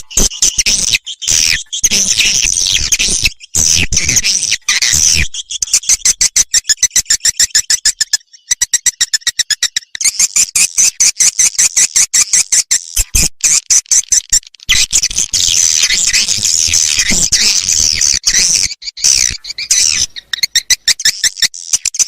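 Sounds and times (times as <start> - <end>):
swiftlet calls clicking chirps: 0.0 - 22.0.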